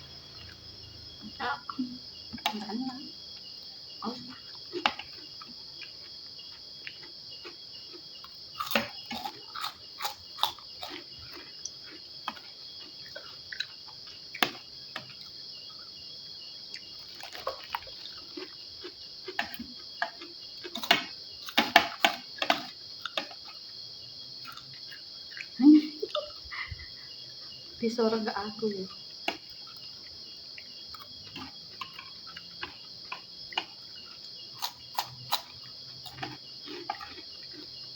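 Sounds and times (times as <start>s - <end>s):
crickets chirring: 0.0s - 37.9s
chewing food: 1.6s - 27.8s, 28.8s - 37.9s.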